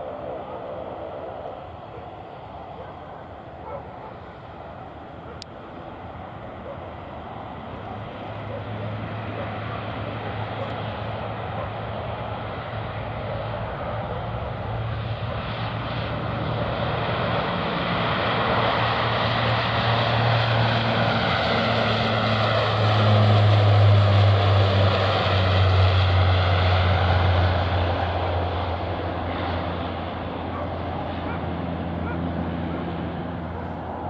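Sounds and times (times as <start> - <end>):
airplane passing by: 0.0 - 34.0.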